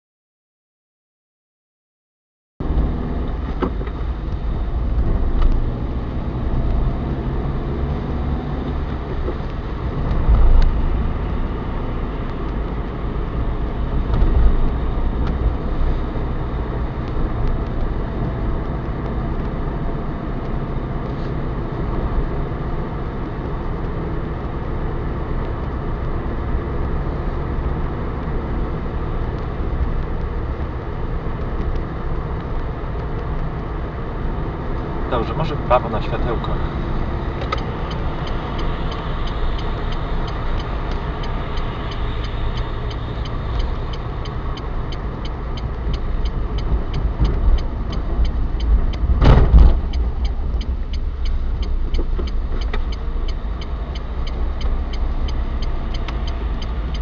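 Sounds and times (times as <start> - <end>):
car engine and tyres rumble: 2.6 - 57.0.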